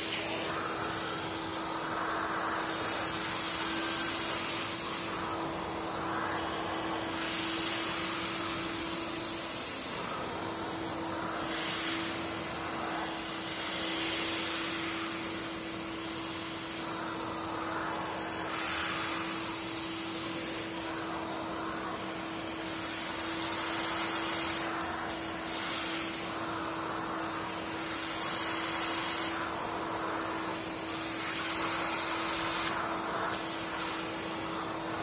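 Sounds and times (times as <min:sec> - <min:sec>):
vacuum cleaner humming: 0:00.0 - 0:35.0
vacuum nozzle on concrete: 0:00.0 - 0:35.0.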